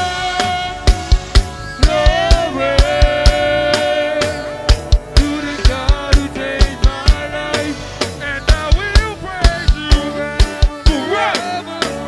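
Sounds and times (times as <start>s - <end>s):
band music with drum kit: 0.0s - 12.0s
pitch-bending melody line: 0.0s - 12.0s.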